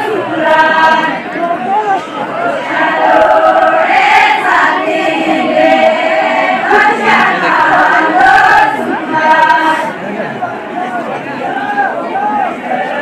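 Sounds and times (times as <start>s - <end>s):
group singing in unison: 0.0s - 13.0s.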